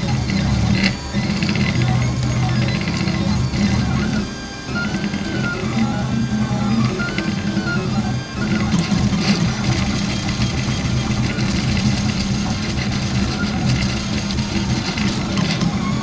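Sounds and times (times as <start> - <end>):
printer stepper motors buzzing: 0.0 - 16.0.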